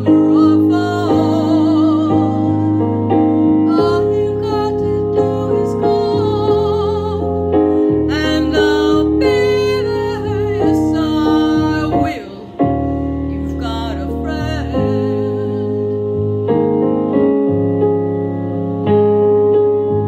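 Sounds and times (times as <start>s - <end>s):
woman singing with vibrato: 0.0s - 16.2s
piano accompaniment: 0.0s - 20.0s.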